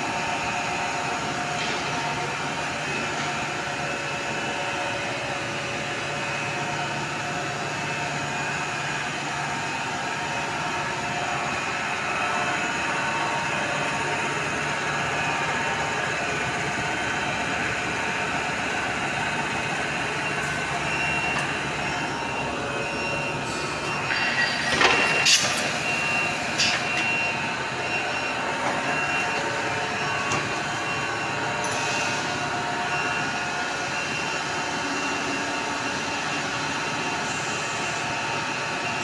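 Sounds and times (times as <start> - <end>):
machine motors and rollers whirring: 0.0 - 39.0.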